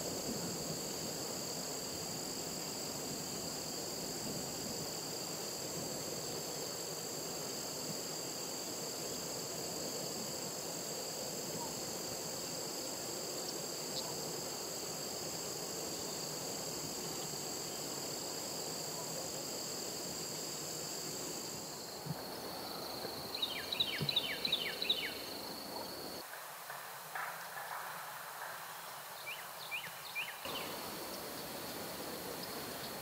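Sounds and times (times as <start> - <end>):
insects droning: 0.0 - 33.0
low outdoor hiss: 0.0 - 33.0.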